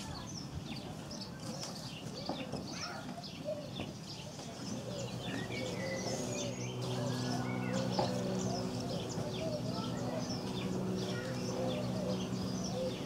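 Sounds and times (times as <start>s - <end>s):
swallows twittering: 0.1s - 13.0s.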